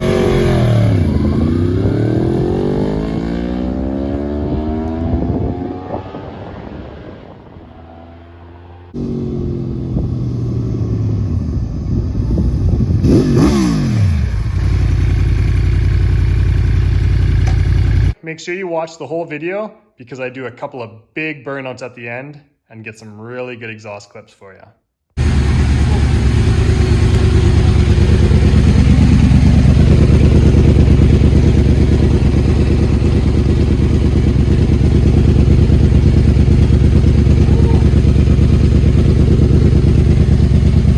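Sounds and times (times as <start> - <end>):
motorcycle engine revving: 0.0 - 18.2, 25.2 - 40.9.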